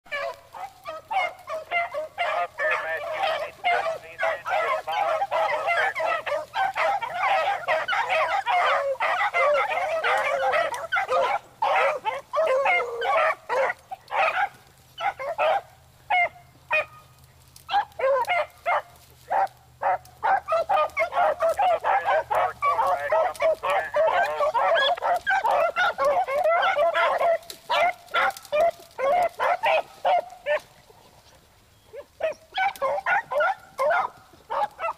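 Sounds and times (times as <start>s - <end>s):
pack of beagles baying: 0.1s - 34.9s.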